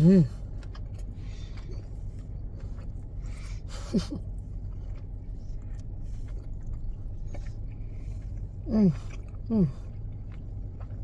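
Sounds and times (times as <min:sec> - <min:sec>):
person chewing food: 0:00.0 - 0:11.0
steady low rumble: 0:00.0 - 0:11.0.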